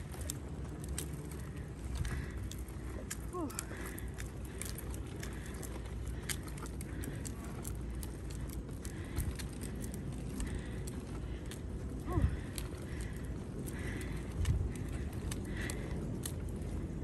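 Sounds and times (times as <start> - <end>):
stroller wheels rolling over asphalt: 0.0 - 17.0.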